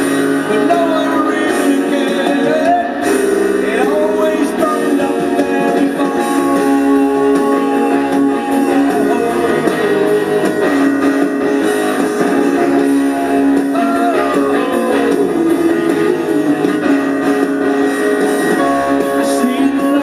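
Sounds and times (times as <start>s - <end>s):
lead guitar line bending: 0.0s - 20.0s
rock band instrumental: 0.0s - 20.0s.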